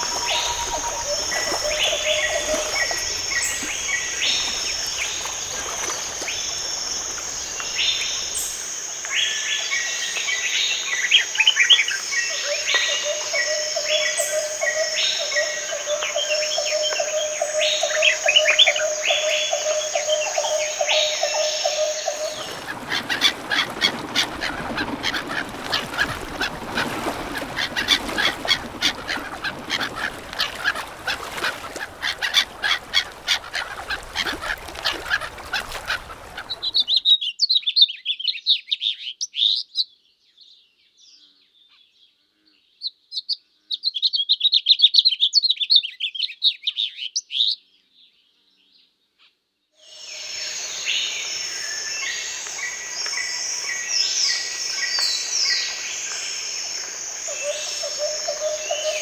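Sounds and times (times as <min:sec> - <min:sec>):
birds chattering and twittering: 0:00.0 - 0:39.6, 0:50.0 - 0:59.0.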